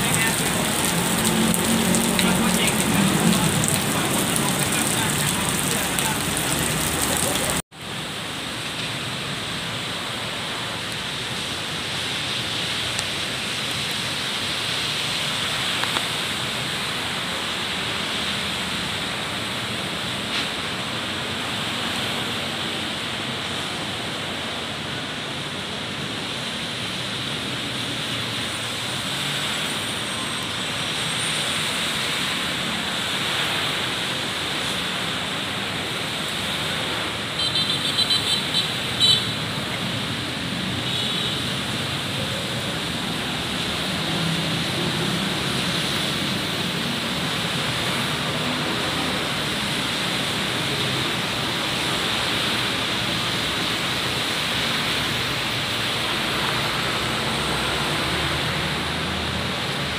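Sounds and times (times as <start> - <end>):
rain hissing: 0.0 - 59.9
traffic on wet road: 0.0 - 59.9.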